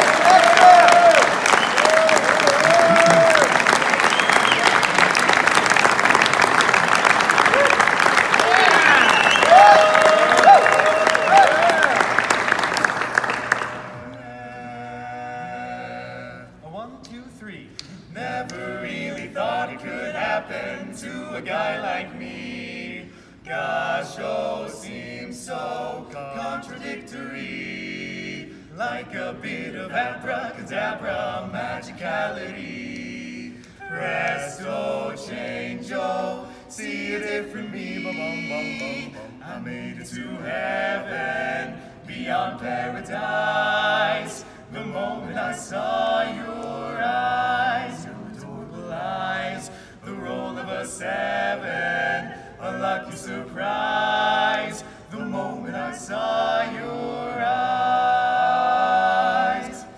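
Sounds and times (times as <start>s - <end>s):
male voices singing in harmony: 0.0s - 4.7s, 14.1s - 16.6s, 17.8s - 59.9s.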